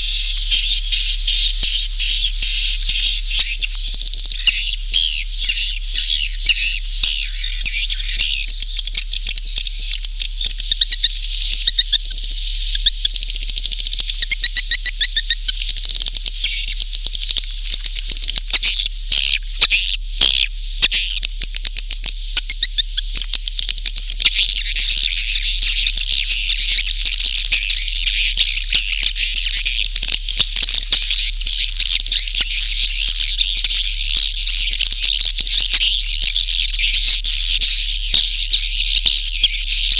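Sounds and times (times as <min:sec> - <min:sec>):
swiftlets twittering chirps: 0:00.0 - 0:39.9.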